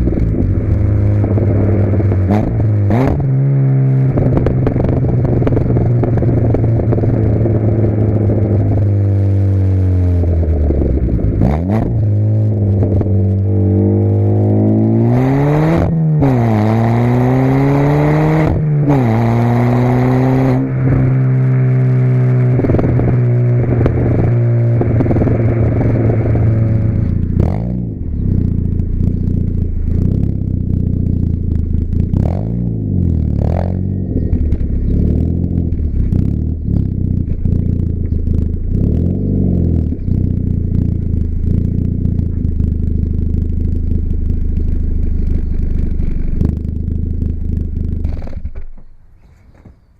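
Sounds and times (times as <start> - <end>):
car engine revving: 0.0 - 48.8
exhaust pops and crackles: 0.0 - 49.9.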